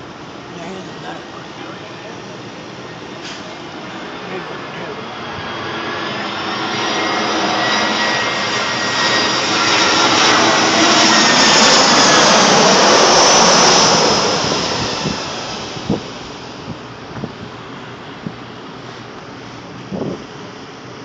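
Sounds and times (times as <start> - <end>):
jet airliner passing overhead: 0.0 - 21.0.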